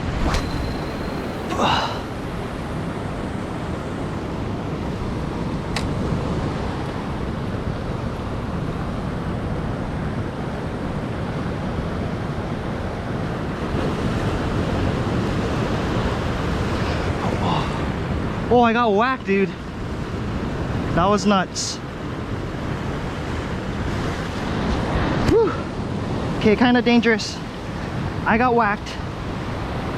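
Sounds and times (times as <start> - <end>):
ocean surf on rocks: 0.0 - 29.9.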